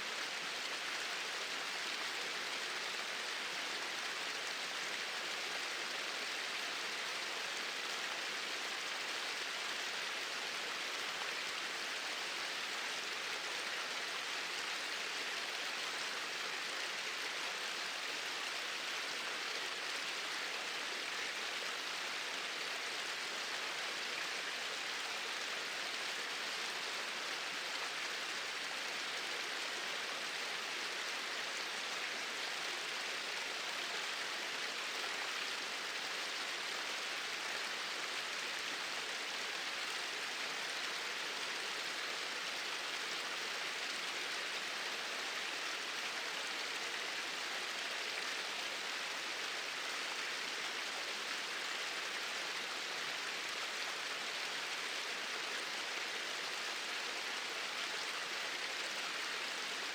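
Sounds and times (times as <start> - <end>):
small waterfall pouring: 0.1 - 59.9.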